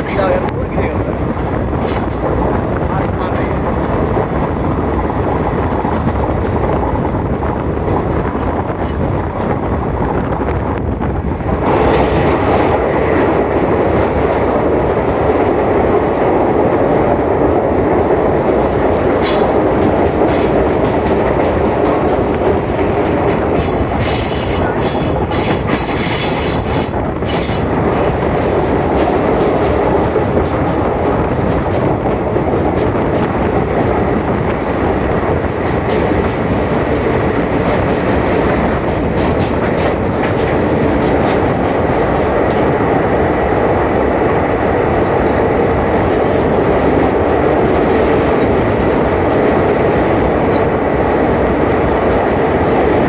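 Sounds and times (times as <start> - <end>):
train wheels rumbling: 0.0 - 53.0.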